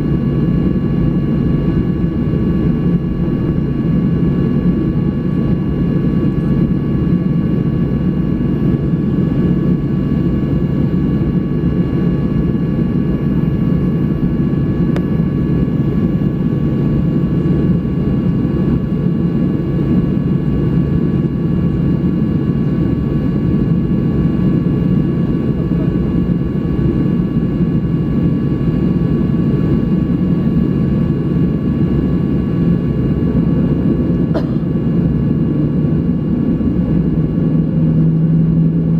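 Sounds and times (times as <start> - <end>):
aircraft cabin low rumble: 0.0 - 38.9.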